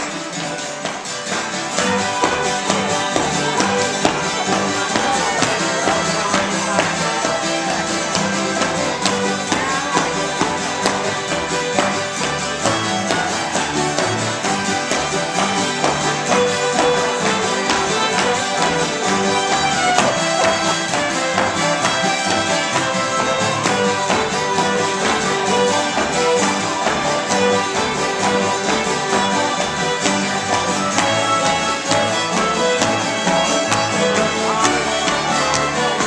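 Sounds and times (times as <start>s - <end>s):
acoustic string band playing: 0.0s - 36.0s.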